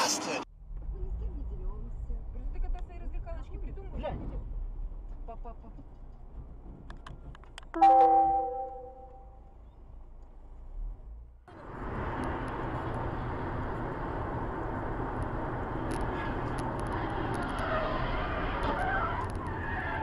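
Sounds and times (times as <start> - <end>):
road and wind noise inside car: 0.0 - 7.8, 9.1 - 20.0.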